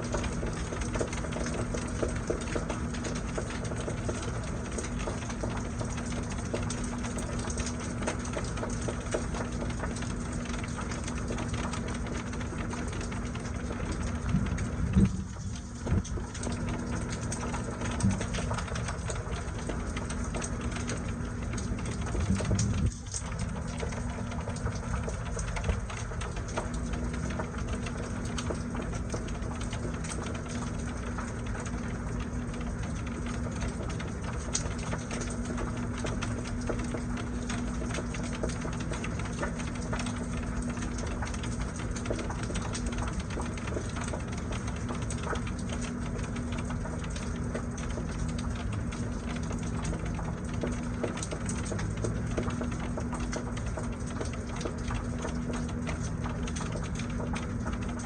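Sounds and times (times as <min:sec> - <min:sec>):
low machine hum: 0:00.0 - 0:58.0
steady rain falling: 0:00.0 - 0:58.0.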